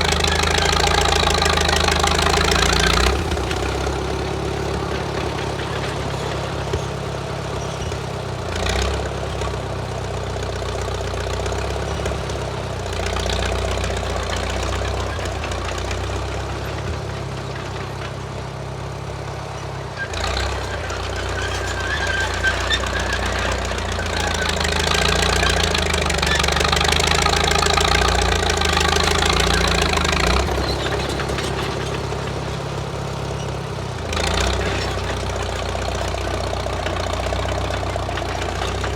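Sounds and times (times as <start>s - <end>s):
bulldozer engine under load: 0.0s - 38.9s.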